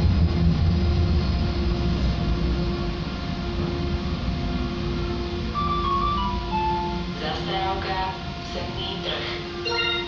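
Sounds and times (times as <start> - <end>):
tram rumble and hum: 0.0 - 10.0
descending onboard chime: 1.0 - 10.0.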